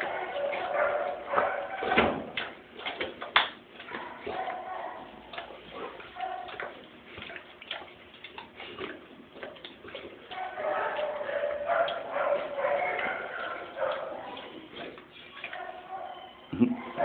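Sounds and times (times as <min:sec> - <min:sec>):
dog chewing rawhide: 0:00.0 - 0:16.2.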